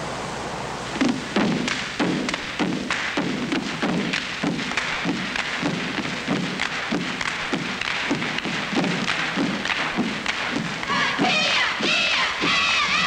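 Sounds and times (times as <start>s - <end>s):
constant hiss: 0.0s - 13.0s
rhythmic thumping: 0.9s - 13.0s.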